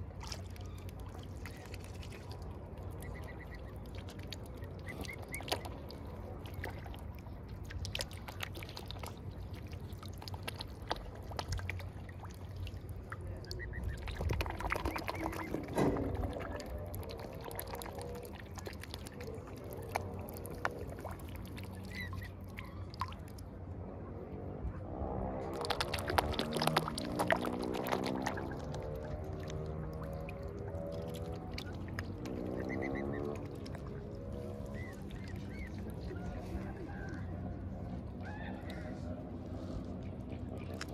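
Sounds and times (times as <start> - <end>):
birds splashing at water surface: 0.0 - 23.6, 25.4 - 40.9.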